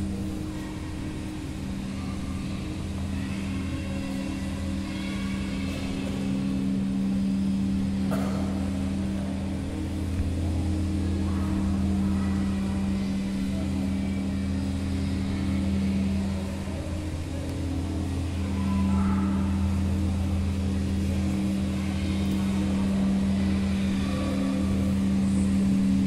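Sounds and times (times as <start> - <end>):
low drone of held tones: 0.0 - 26.0.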